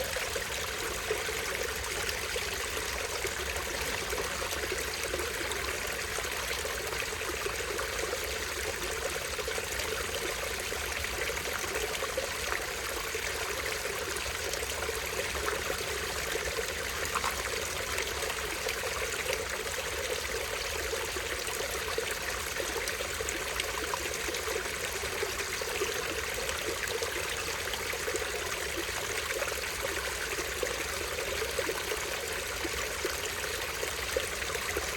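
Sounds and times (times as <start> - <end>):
stream trickling over small waterfall: 0.0 - 34.9.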